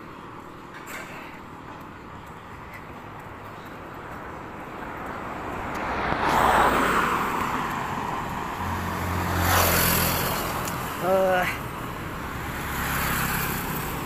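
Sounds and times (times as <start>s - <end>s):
vehicles passing by: 0.0s - 14.0s.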